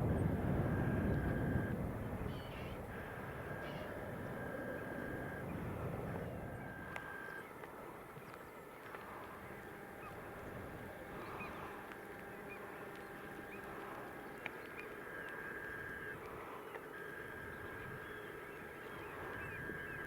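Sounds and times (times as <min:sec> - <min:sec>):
gulls calling: 0:00.0 - 0:20.0
tractor engine drone: 0:00.0 - 0:20.0.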